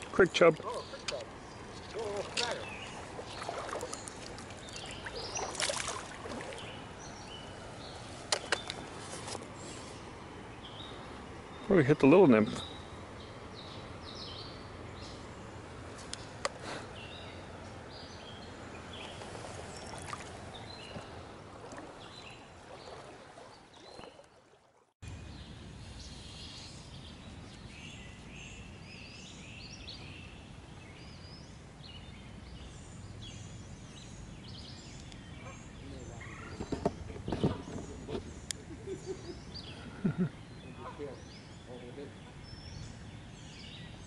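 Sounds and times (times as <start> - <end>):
small birds chirping: 0.0 - 24.3, 25.1 - 44.0
creek water flowing: 0.0 - 44.0.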